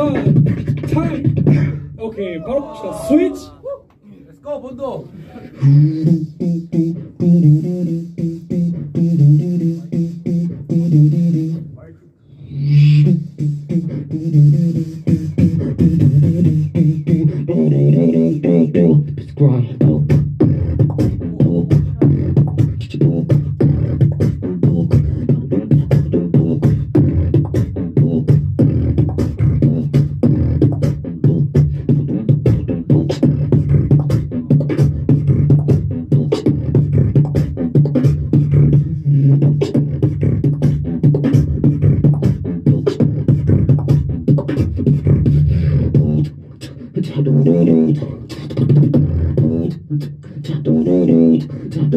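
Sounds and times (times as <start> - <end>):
person beatboxing into a microphone: 0.0 - 51.9.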